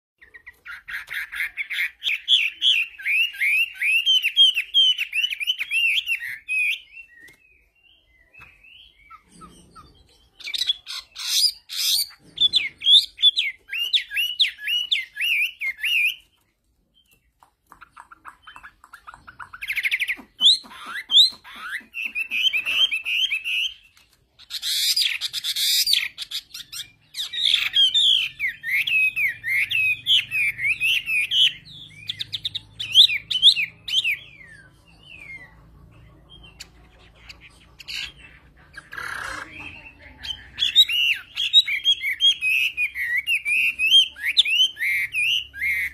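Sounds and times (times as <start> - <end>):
songbird whistled phrases: 0.2 - 16.3, 18.2 - 23.9, 24.5 - 35.5, 38.8 - 45.9.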